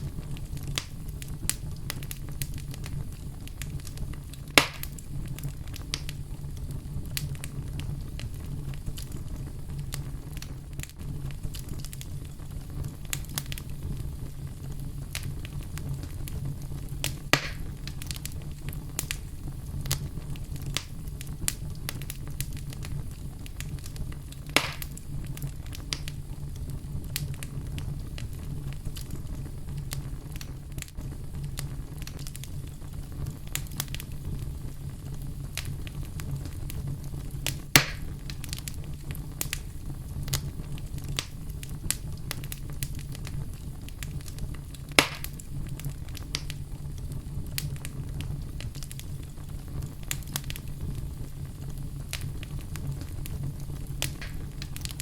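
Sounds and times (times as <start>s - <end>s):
fire crackling and popping: 0.0s - 55.0s
wood fire burning: 0.0s - 55.0s.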